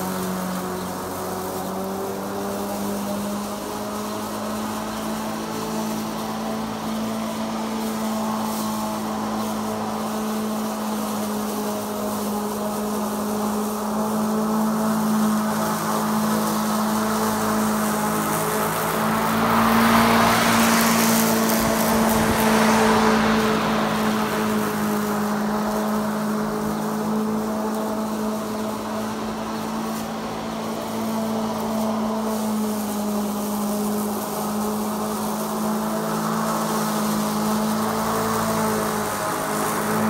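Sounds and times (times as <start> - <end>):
electric lawn mower humming: 0.0 - 40.0
grass being cut hissing: 0.0 - 40.0.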